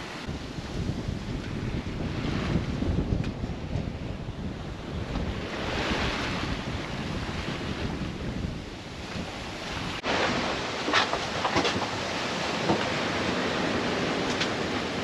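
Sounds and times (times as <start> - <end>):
seawater rushing and splashing: 0.0 - 15.0
wind buffeting microphone: 0.0 - 15.0.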